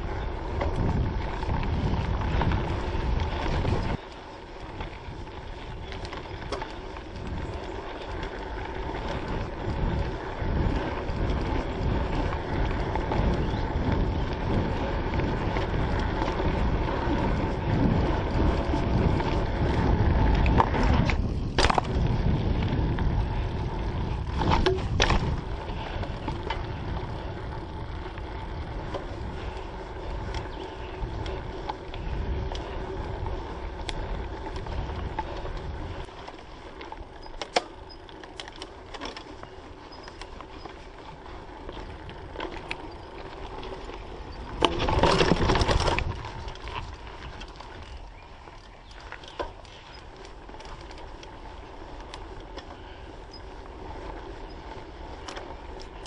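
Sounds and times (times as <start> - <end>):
bike frame and chain rattling: 0.0 - 56.0
bike tyres rolling over dirt: 0.0 - 56.0.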